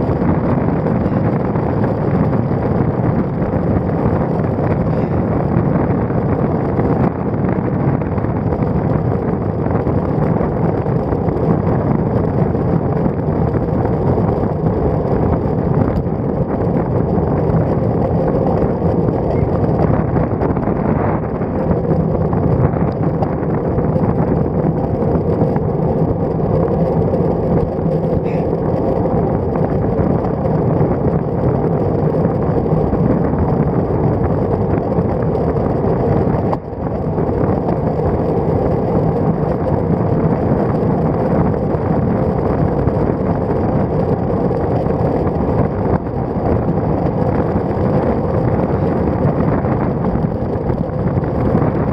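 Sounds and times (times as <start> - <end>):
bicycle tyre and road noise: 0.0 - 51.9
wind rushing over microphone: 0.0 - 51.9.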